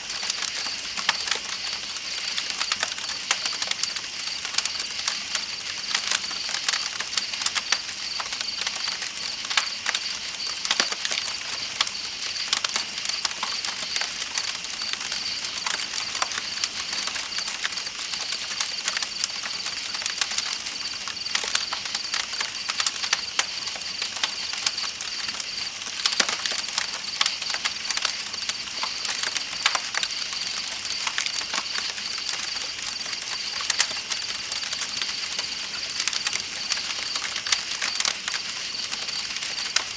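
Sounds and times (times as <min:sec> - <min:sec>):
campfire crackling: 0:00.1 - 0:39.9
night insects chirping: 0:00.1 - 0:39.9.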